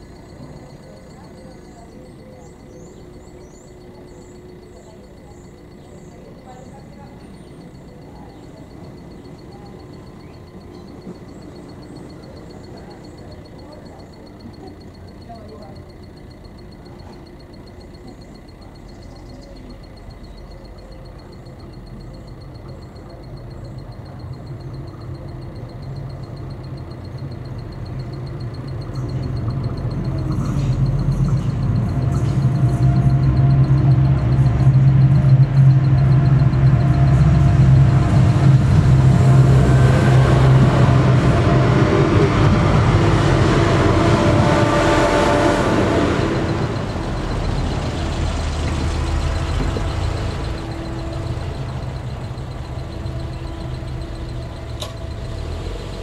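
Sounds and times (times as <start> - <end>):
diesel engine hum: 0.0 - 56.0
train wheels on rails: 6.5 - 56.0.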